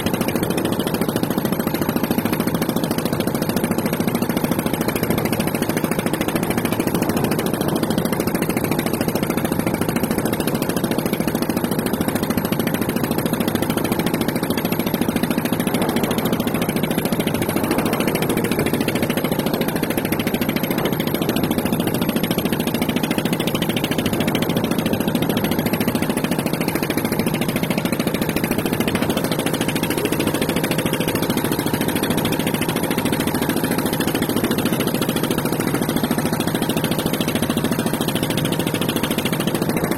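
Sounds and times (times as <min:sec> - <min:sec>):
motor humming steadily: 0:00.0 - 0:39.9.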